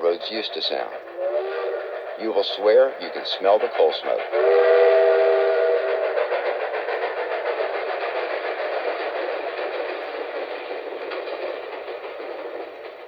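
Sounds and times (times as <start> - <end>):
passing train rush: 0.0 - 13.0.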